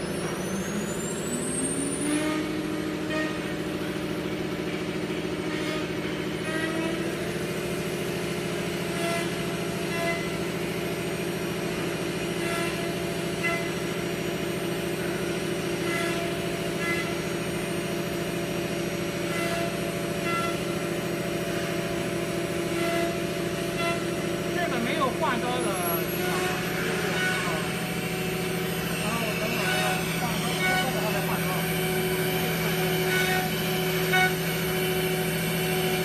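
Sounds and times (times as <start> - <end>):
high-pitched spindle whines: 0.0 - 7.3, 8.8 - 10.6, 12.1 - 17.8, 18.5 - 20.9, 21.6 - 36.0
router machine hum: 0.0 - 36.0.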